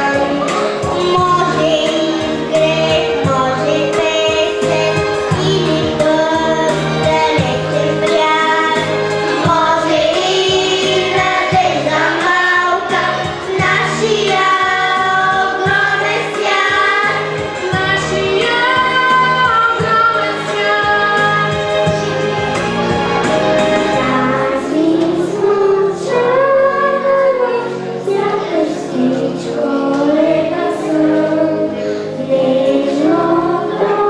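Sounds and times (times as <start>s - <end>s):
instrumental accompaniment with beat: 0.0s - 28.5s
girls choir singing: 0.0s - 34.0s.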